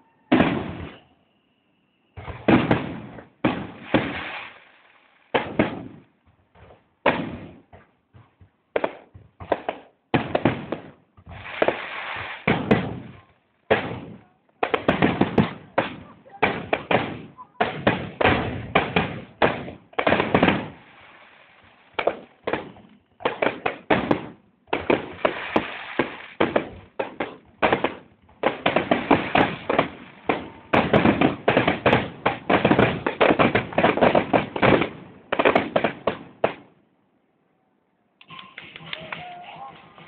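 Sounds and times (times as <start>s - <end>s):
fireworks banging: 0.0s - 36.8s.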